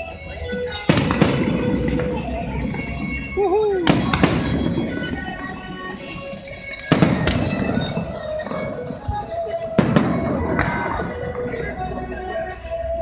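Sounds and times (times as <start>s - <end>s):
fireworks crackling: 0.0s - 13.0s
music playing: 0.0s - 13.0s
fireworks bangs: 0.6s - 12.5s.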